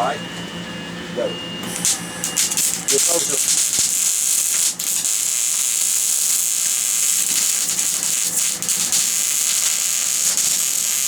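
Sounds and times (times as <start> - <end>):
welder arc sizzling: 1.6 - 11.0.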